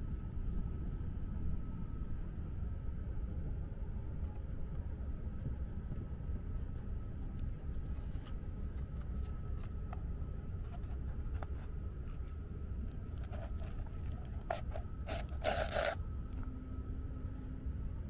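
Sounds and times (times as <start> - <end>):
train cabin low rumble: 0.0 - 15.4.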